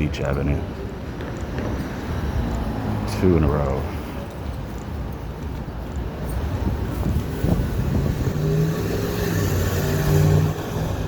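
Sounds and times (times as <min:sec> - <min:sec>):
vehicles passing: 0:00.0 - 0:11.0
engine hum: 0:01.1 - 0:11.0.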